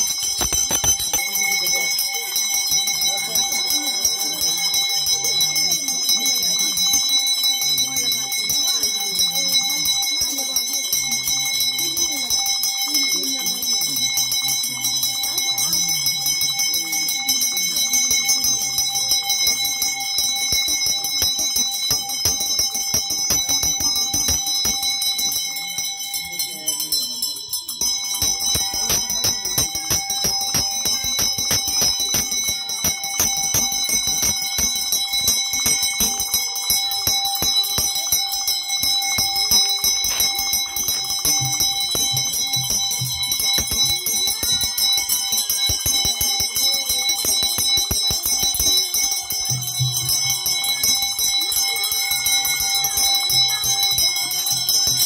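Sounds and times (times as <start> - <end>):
temple bells ringing: 0.0 - 55.0.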